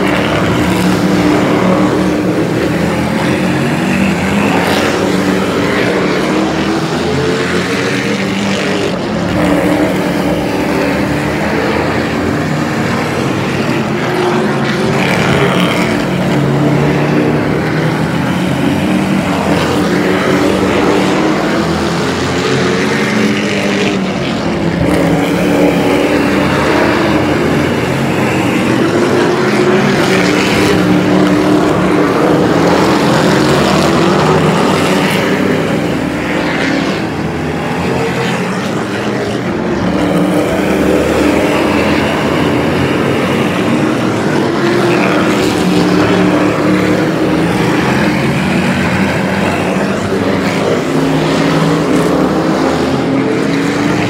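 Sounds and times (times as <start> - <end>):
racing truck engines passing: 0.0 - 54.0.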